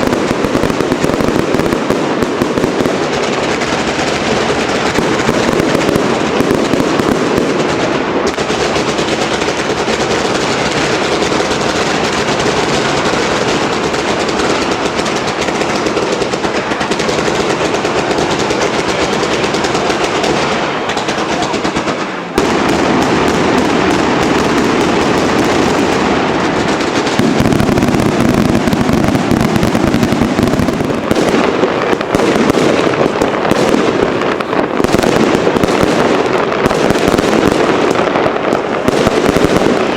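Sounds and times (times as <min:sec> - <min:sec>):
deep fireworks booms: 0:00.0 - 0:39.9
fireworks crackling bangs: 0:00.0 - 0:39.9.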